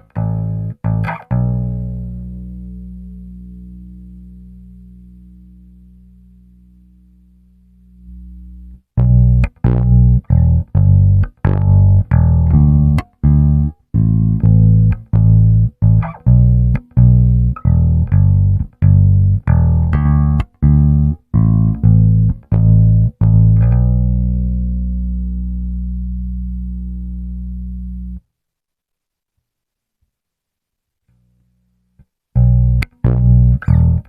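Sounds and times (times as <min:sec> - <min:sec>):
electric bass guitar notes: 0:00.0 - 0:28.2, 0:32.4 - 0:34.0.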